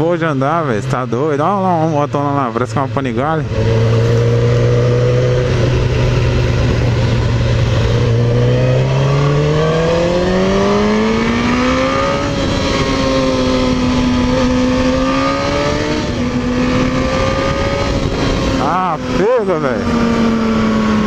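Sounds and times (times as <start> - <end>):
motorcycle engine revving: 0.0 - 21.0
wind rushing: 3.4 - 21.0.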